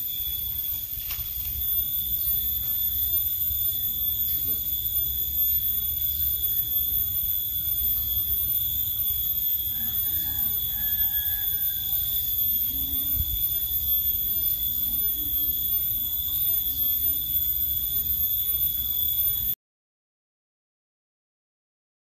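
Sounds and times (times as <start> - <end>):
high-pitched whine: 0.0 - 19.6.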